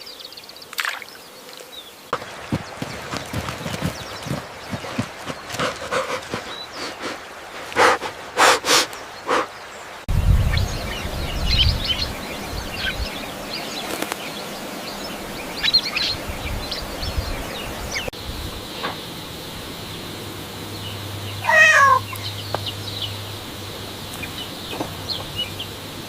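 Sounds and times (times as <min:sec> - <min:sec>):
small birds chirping: 0:00.0 - 0:18.1, 0:18.7 - 0:26.0.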